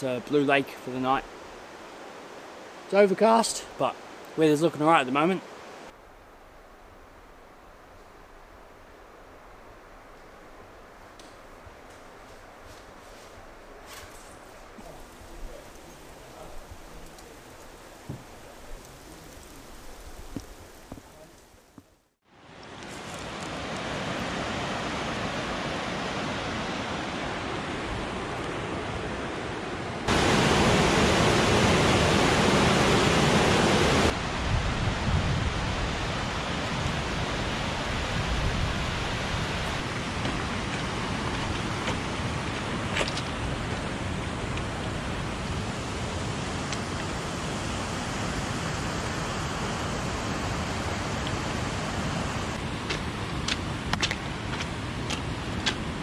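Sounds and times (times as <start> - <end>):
rushing river water: 0.0 - 6.0, 14.5 - 56.0.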